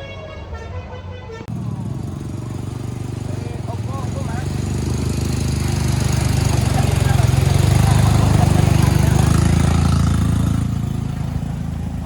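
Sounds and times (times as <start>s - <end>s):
heavy diesel engine running: 1.5s - 12.0s.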